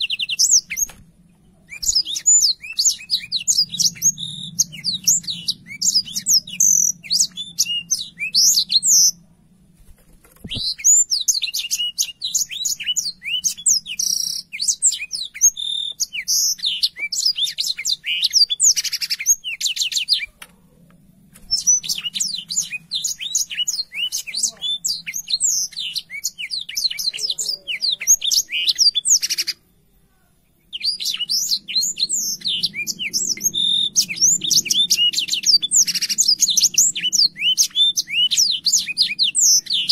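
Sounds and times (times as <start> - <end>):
canary singing: 0.0 - 9.3, 10.3 - 29.7, 30.4 - 39.9.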